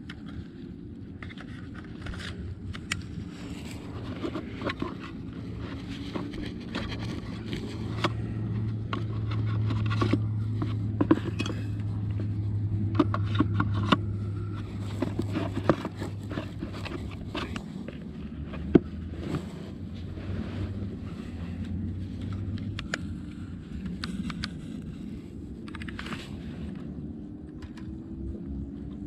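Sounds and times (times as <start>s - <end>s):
drone and case handling clicks: 0.0s - 19.5s, 21.6s - 29.0s
low steady hum: 0.0s - 29.0s.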